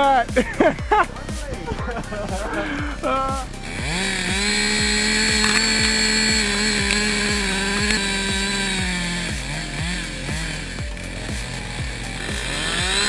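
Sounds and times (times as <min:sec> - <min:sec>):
chainsaw at full throttle: 0:00.0 - 0:13.0
thumping music beat: 0:00.0 - 0:13.0.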